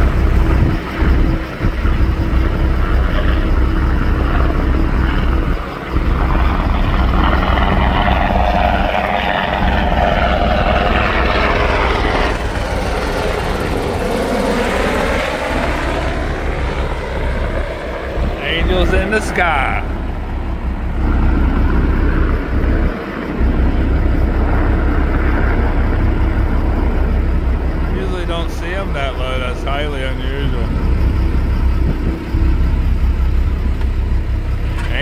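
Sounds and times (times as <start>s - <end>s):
helicopter engine whine: 0.0s - 35.0s
helicopter rotor beat: 0.0s - 35.0s.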